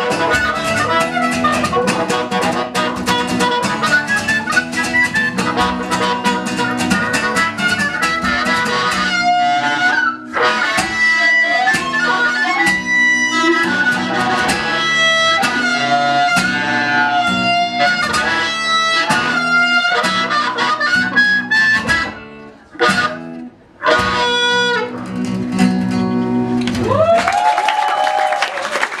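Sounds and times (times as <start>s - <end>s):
live band playing instrumental: 0.0s - 26.8s.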